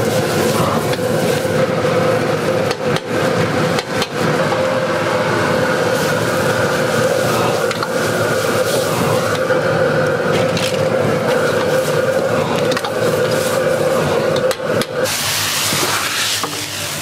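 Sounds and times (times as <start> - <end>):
gas burner roaring: 0.0 - 17.0
vegetables sizzling in a wok: 0.0 - 17.0
ladle scraping and knocking wok: 2.6 - 9.6, 10.2 - 17.0.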